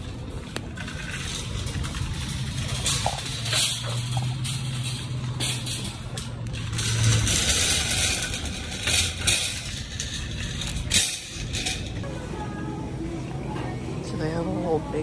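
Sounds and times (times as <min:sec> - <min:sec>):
shopping cart rattling over asphalt: 0:00.0 - 0:12.0.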